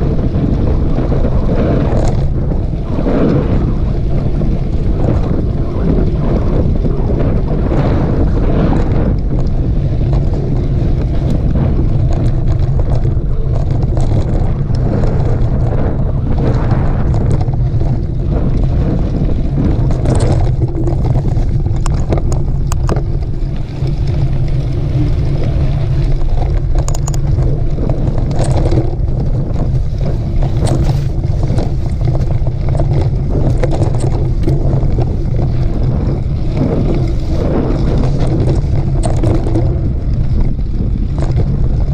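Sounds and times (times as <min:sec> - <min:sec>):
bike clicks and rattles: 0:00.0 - 0:41.9
wind buffeting microphone: 0:00.0 - 0:41.9.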